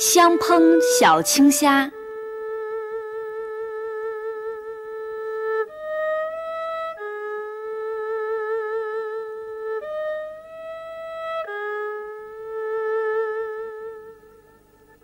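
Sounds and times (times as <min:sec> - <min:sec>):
slow melody with vibrato: 0:00.0 - 0:15.0.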